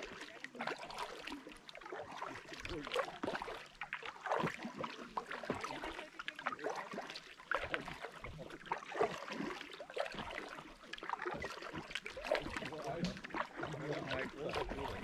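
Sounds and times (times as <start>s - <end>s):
paddle splashing in water: 0.0s - 15.0s
water dripping off paddle: 0.0s - 15.0s.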